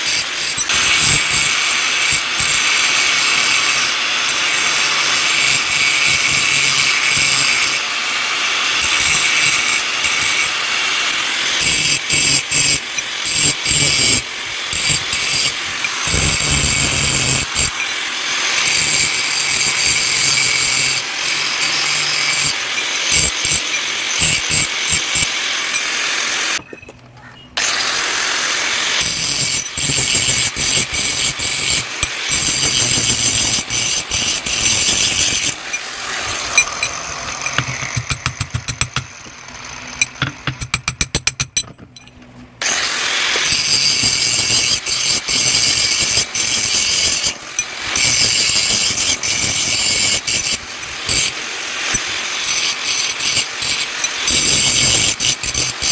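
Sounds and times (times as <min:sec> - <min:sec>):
power tool working metal: 0:00.0 - 0:26.6, 0:27.6 - 0:55.9.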